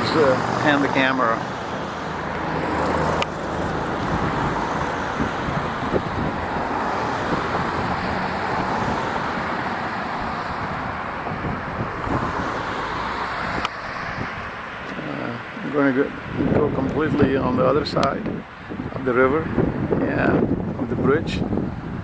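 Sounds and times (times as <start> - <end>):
highway traffic rushing: 0.0 - 22.0
low engine hum: 0.0 - 22.0.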